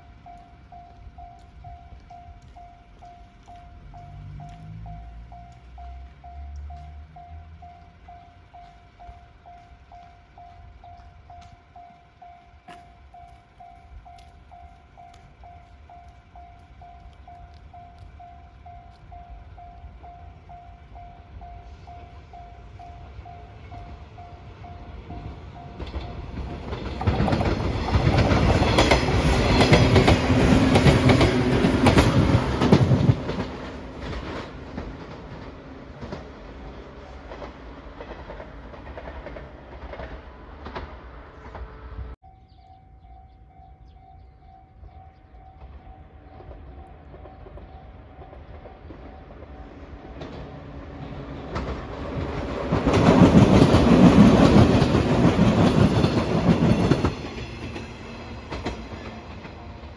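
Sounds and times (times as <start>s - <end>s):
level-crossing warning bell: 0.0s - 34.4s, 42.2s - 50.4s, 52.1s - 59.9s
train approaching: 0.0s - 59.9s
train rumbling past: 0.0s - 59.9s.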